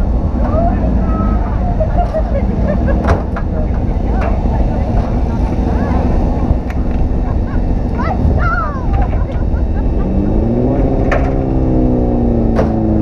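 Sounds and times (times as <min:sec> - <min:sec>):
off-road vehicle engine rumble: 0:00.0 - 0:13.0.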